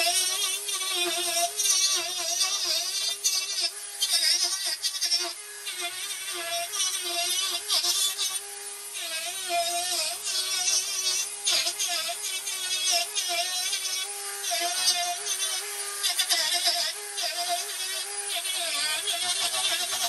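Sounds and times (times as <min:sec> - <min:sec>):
bit cutting into wood: 0:00.0 - 0:20.0
rotary tool motor whine: 0:00.0 - 0:20.0.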